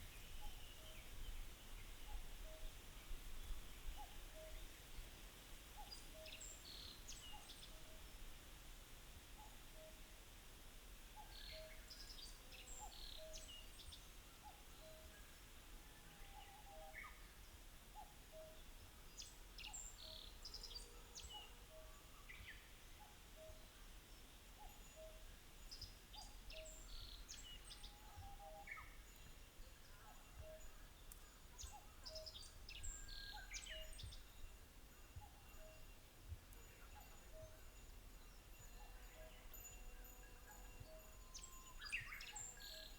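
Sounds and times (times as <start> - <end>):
soft steady background hiss: 0.0 - 42.9.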